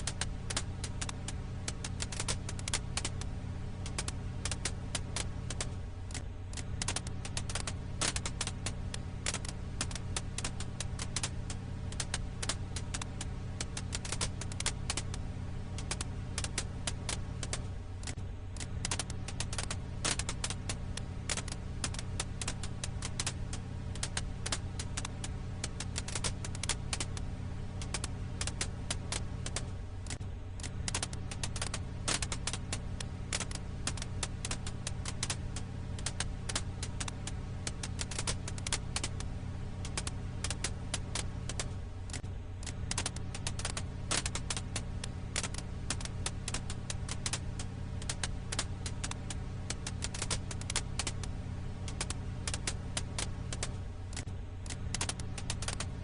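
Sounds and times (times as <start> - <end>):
firewood crackling and popping: 0.0 - 56.0
low rumble: 0.0 - 56.0.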